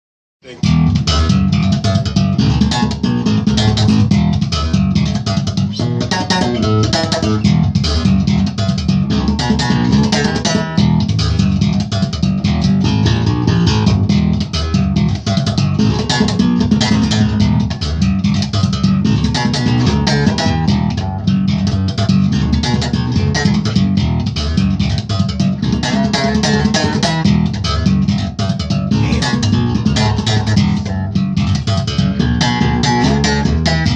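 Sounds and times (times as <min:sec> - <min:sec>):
electric bass guitar funk playing: 0:00.4 - 0:33.9.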